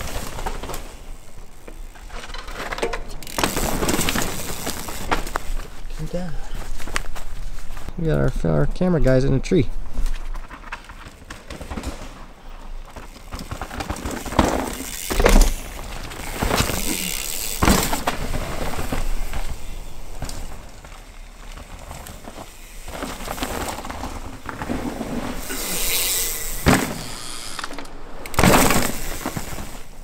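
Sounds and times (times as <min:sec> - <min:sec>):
bike chain and frame rattling: 0:00.0 - 0:08.4, 0:09.9 - 0:30.0
bike tyres rolling and skidding on dirt: 0:00.0 - 0:30.0.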